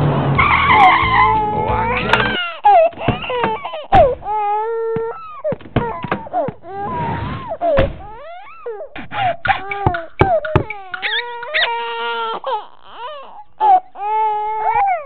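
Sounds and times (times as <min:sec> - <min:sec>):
baby crying: 0:00.4 - 0:15.0.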